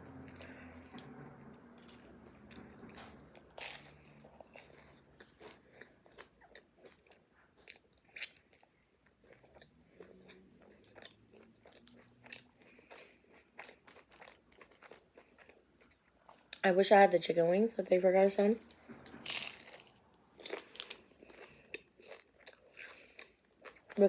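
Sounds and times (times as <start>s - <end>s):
person chewing food: 0.2s - 16.6s, 18.7s - 24.0s.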